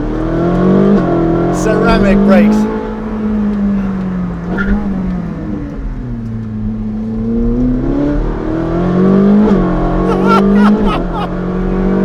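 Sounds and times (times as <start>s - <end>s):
sports car engine accelerating: 0.0s - 12.0s.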